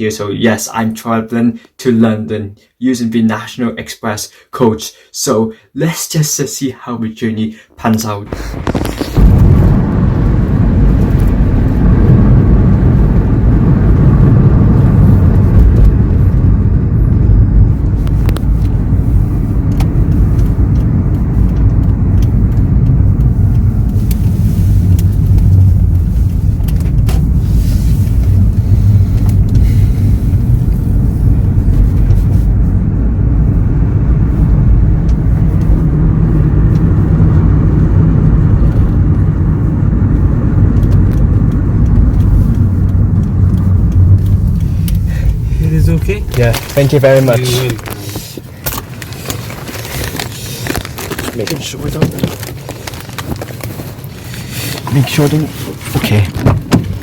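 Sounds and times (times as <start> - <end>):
car engine and road rumble: 7.3 - 57.0.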